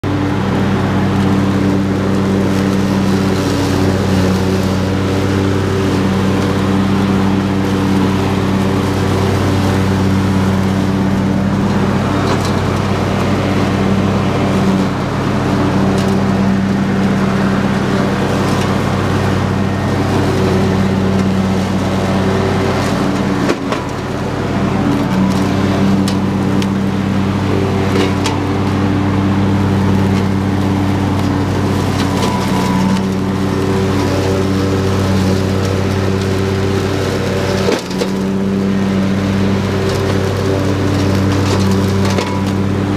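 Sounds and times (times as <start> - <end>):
lawn tractor engine running: 0.0 - 42.9
mower deck cutting grass: 0.0 - 42.9.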